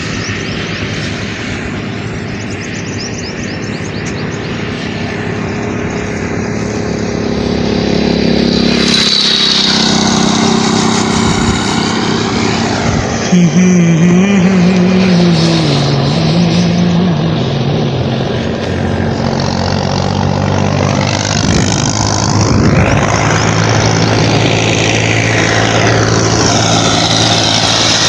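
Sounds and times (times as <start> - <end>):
loud wavering tone: 0.0 - 28.0
vehicle engine running: 0.0 - 28.0.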